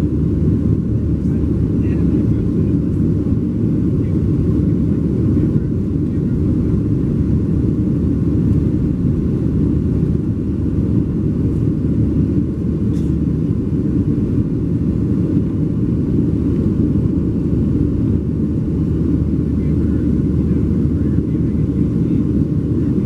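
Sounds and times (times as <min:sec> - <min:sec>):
jet engines rumbling in cabin: 0:00.0 - 0:23.0.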